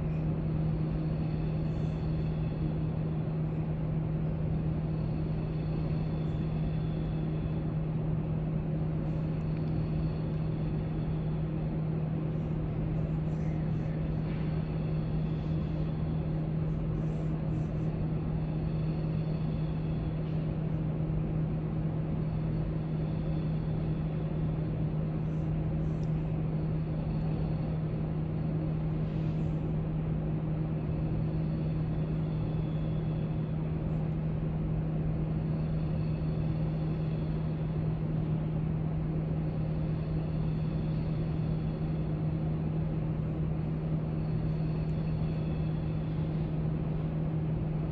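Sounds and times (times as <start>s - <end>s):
low hum and rumble: 0.0s - 47.9s.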